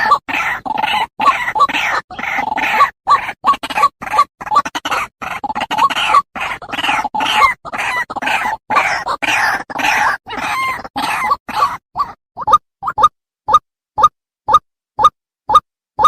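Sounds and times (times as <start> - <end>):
waterhen croaking calls: 0.0 - 13.1.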